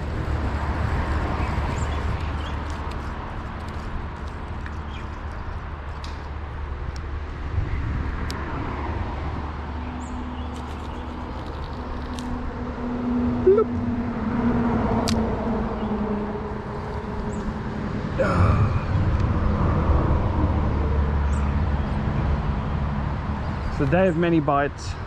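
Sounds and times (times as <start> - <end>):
road vehicles passing: 0.0 - 25.0.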